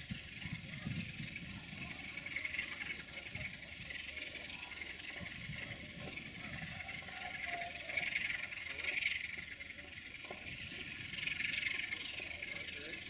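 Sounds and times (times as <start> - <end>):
chorus of calling animals: 0.0 - 13.0
diesel locomotive low rumble: 0.0 - 13.0.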